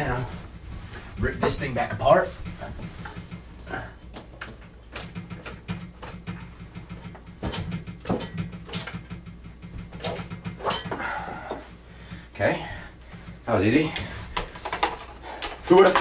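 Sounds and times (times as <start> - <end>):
phone cords clicking and knocking: 0.0 - 12.3, 13.0 - 16.0
steady low hum: 0.0 - 16.0.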